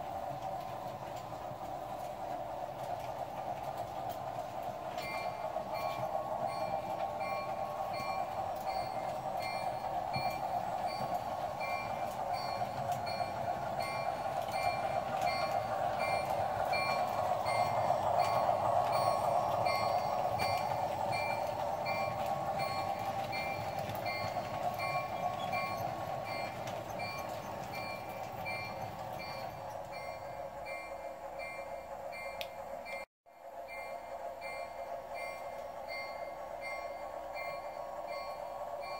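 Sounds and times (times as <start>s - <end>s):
model train running drone: 0.0s - 38.9s
locomotive bell ringing: 0.2s - 38.9s.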